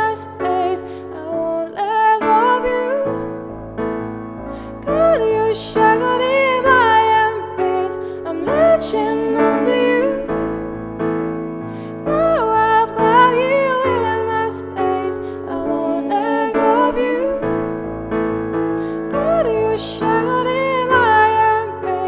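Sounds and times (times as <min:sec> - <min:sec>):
keyboard chords: 0:00.0 - 0:22.0.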